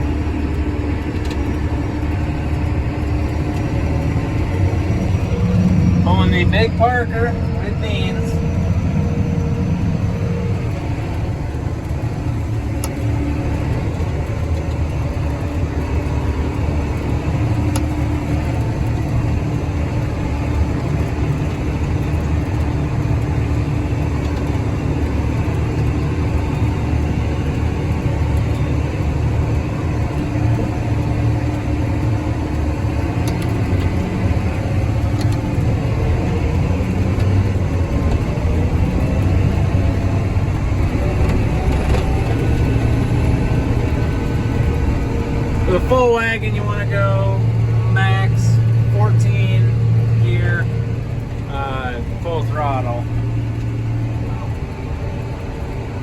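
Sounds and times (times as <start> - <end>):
tractor engine rumbling: 0.0 - 56.0.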